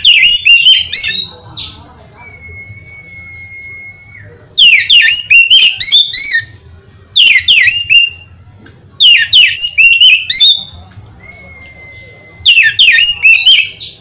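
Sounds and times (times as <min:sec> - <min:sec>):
bird singing whistled notes: 0:00.0 - 0:06.6, 0:07.2 - 0:08.4, 0:09.0 - 0:14.0.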